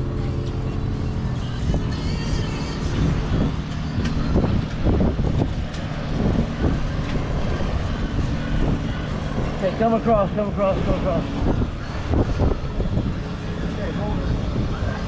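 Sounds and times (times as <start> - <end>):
wind buffeting microphone: 1.2 - 15.0.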